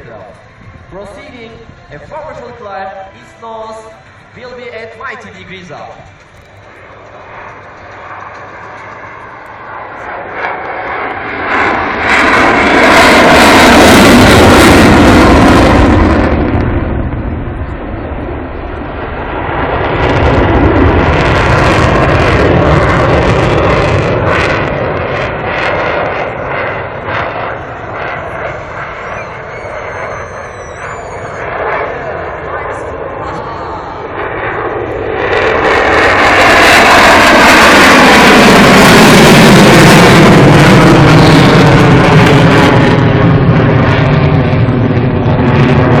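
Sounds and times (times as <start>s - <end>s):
jet engine roaring past: 0.0s - 46.0s.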